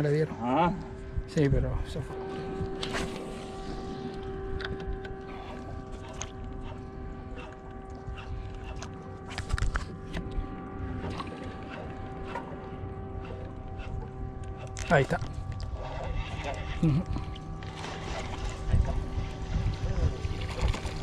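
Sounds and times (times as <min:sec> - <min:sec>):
boat motor hum: 0:00.0 - 0:21.0
water noise: 0:00.0 - 0:21.0
wind: 0:00.0 - 0:21.0.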